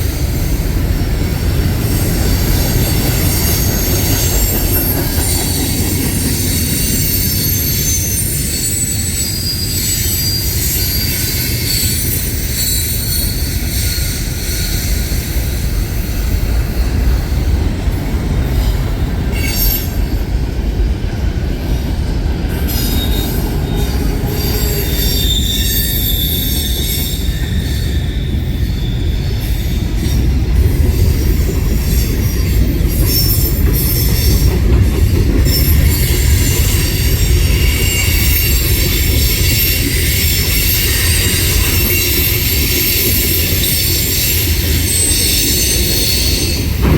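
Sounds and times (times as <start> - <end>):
train rumbling on rails: 0.0 - 46.9
high-pitched wheel squeals: 1.7 - 17.5, 18.5 - 20.2, 22.5 - 46.9.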